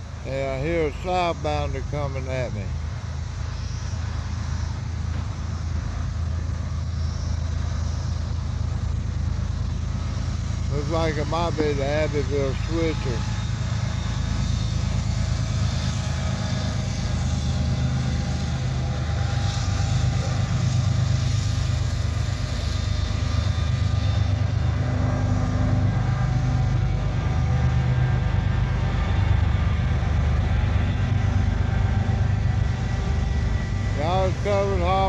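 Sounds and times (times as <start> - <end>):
freight cars rumbling: 0.0 - 35.0
locomotive engine drone: 0.0 - 35.0.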